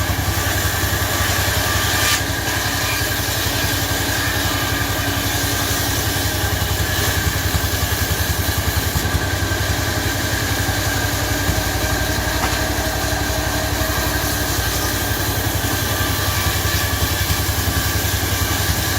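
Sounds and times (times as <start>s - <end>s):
chainsaw engine idling: 0.0s - 18.9s.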